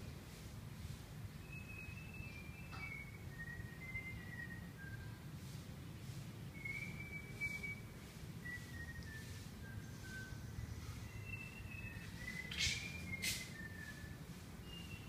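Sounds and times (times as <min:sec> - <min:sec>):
short whistled notes: 0:01.4 - 0:05.2, 0:06.5 - 0:15.0.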